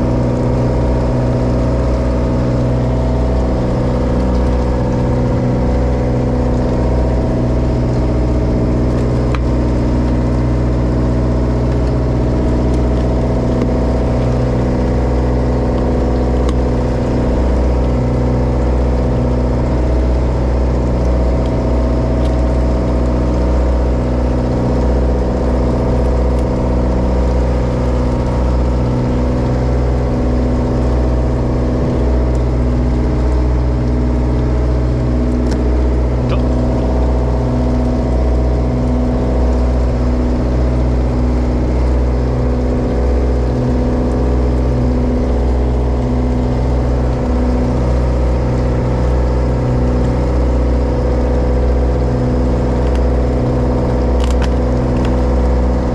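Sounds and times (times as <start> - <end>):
boat diesel engine droning: 0.0 - 55.9.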